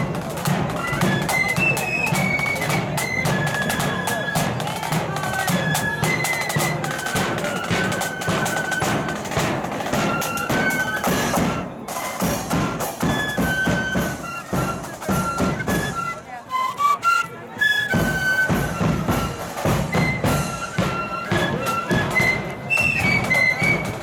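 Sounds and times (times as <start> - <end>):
side drums: 0.0 - 16.3, 17.8 - 24.0
flutes playing a march melody: 0.0 - 24.0.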